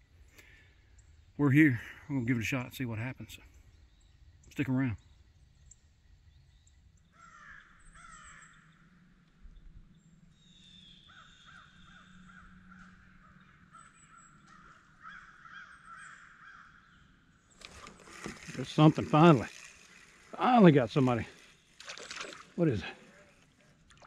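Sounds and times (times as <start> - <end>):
faint bird calls: 0.3 - 24.0.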